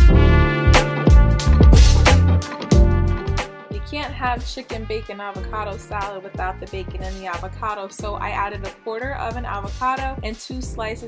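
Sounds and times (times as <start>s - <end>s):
background music with bass beat: 0.0s - 11.0s.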